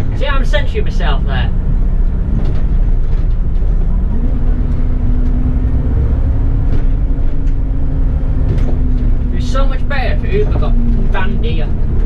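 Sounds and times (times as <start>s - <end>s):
bus engine rumble: 0.0s - 12.0s
rising tone: 1.3s - 12.0s.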